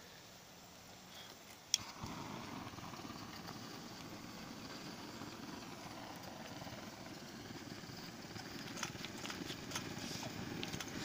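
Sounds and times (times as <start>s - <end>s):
gas blowtorch hissing: 1.8s - 11.0s.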